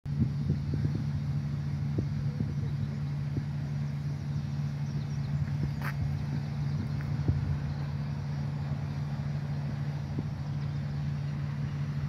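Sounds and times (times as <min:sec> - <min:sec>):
diesel locomotive engine idling: 0:00.1 - 0:12.0
wind buffeting microphone: 0:00.1 - 0:12.0.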